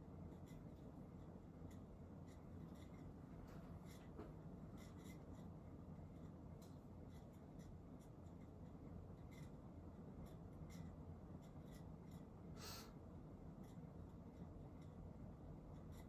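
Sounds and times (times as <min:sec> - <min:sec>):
ceiling fan humming: 0:00.0 - 0:16.0
light irregular ticks: 0:00.2 - 0:12.4, 0:13.4 - 0:16.0.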